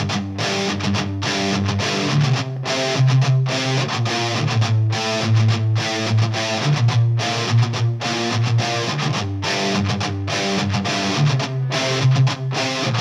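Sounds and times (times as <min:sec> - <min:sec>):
rock music with electric guitar: 0:00.0 - 0:13.0.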